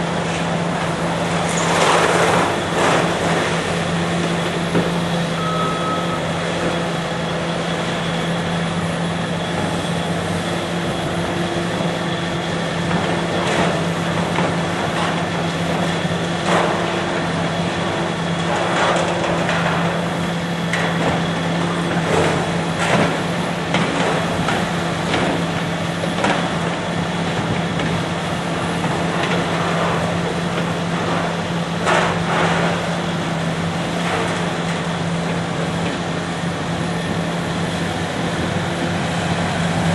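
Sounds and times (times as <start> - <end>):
diesel demolition machinery running: 0.0 - 39.9.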